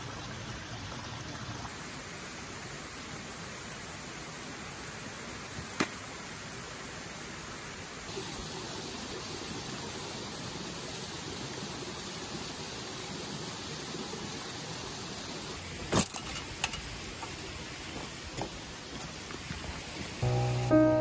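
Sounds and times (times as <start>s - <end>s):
mountain stream rushing: 1.7s - 20.2s.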